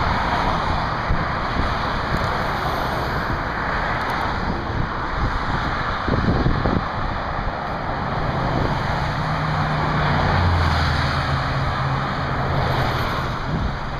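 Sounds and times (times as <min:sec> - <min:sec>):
road and wind rush: 0:00.0 - 0:13.9.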